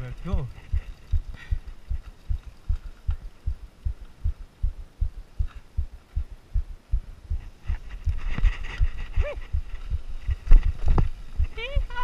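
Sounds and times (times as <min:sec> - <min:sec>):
regular low thumps: 0:00.0 - 0:12.0.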